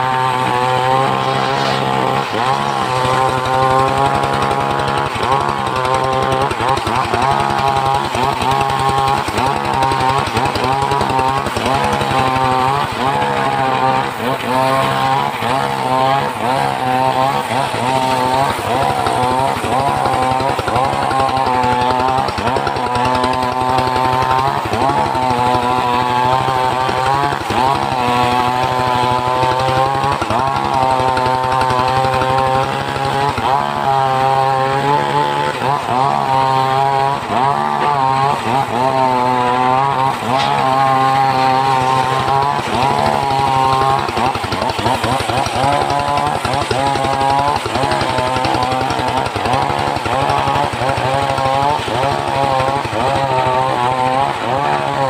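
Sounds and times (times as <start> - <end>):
saw engine running under load: 0.0 - 55.0.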